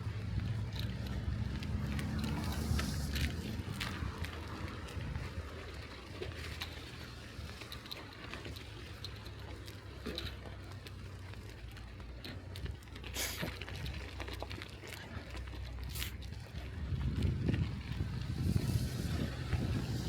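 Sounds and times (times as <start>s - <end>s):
bicycle tyres on snow: 0.0s - 20.0s.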